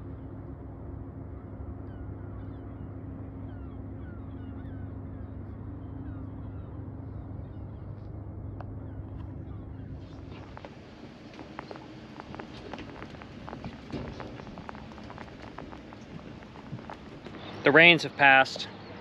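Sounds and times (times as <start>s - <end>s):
low machine hum: 0.0s - 19.0s
birds chirping: 1.4s - 19.0s.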